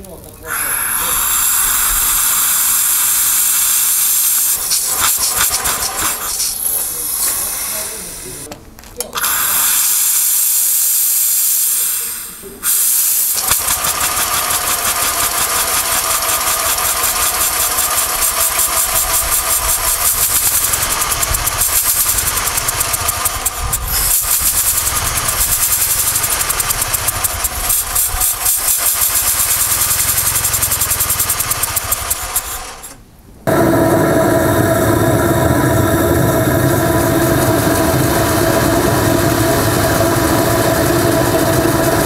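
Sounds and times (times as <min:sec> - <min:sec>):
steam hissing from jet: 0:00.0 - 0:08.5, 0:09.2 - 0:42.0
steam engine exhaust beat: 0:00.4 - 0:08.5, 0:09.2 - 0:42.0.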